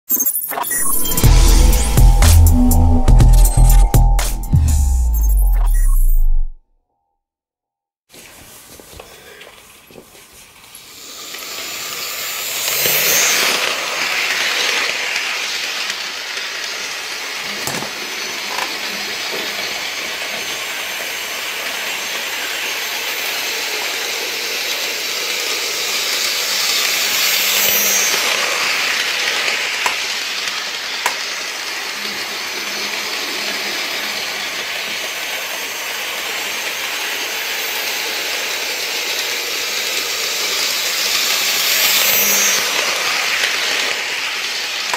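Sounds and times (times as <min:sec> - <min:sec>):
model locomotive whirring hiss: 0:08.1 - 0:44.9.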